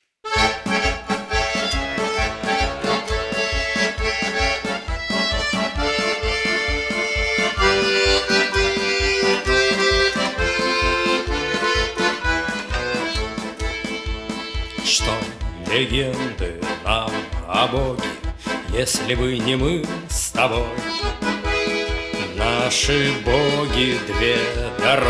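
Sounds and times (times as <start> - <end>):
button accordion playing a march: 0.2 - 25.0.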